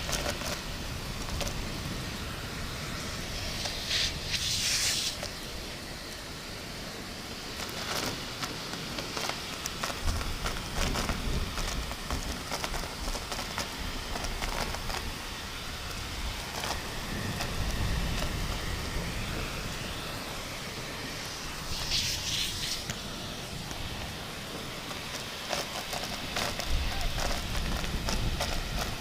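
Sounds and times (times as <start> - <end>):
heavy rain falling: 0.0 - 5.9, 7.3 - 29.0.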